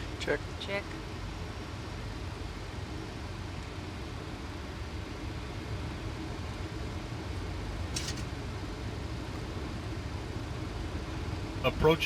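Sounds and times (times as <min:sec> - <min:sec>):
airflow and engines rumbling: 0:00.0 - 0:12.0.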